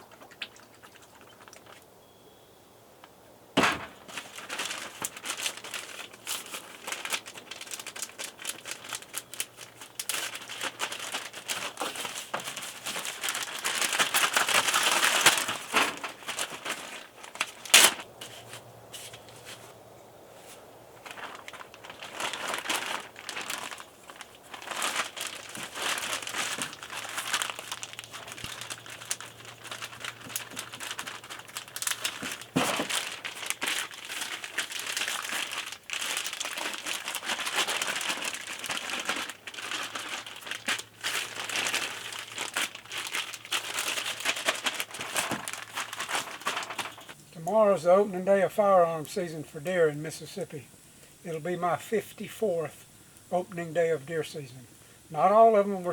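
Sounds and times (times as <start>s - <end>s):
crinkling and rustling: 3.0s - 51.4s.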